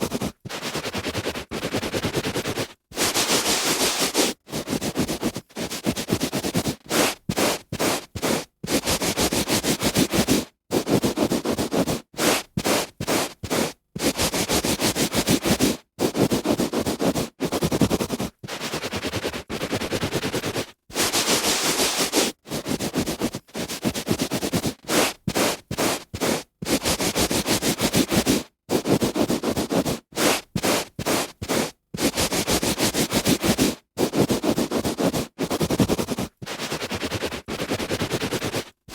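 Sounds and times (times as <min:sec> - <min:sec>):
hand rubbing on carpet: 0:00.0 - 0:38.8.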